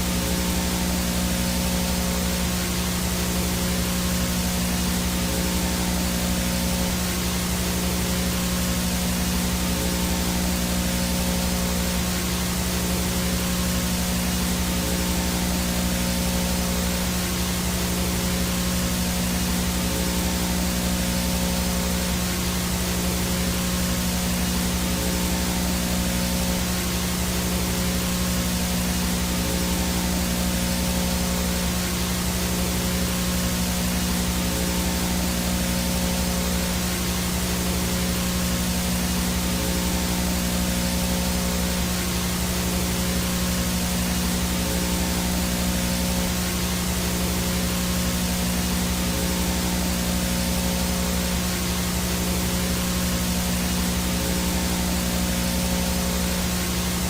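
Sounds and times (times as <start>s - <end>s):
low buzzing hum: 0.0s - 57.0s
static hiss: 0.0s - 57.0s.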